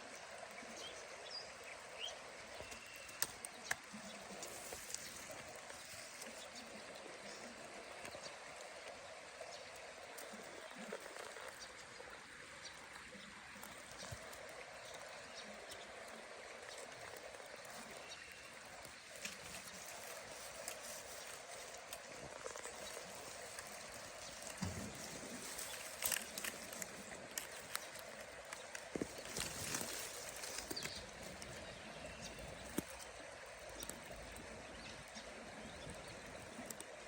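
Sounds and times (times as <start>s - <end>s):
creek water running: 0.0s - 37.0s.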